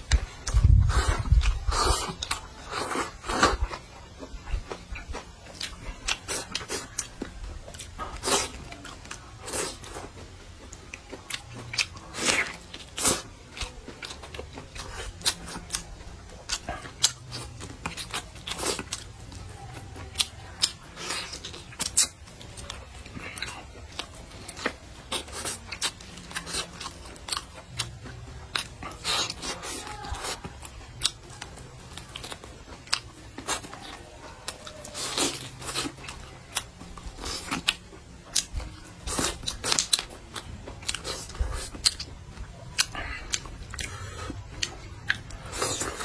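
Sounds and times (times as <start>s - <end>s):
person chewing and crunching: 0.0s - 46.0s.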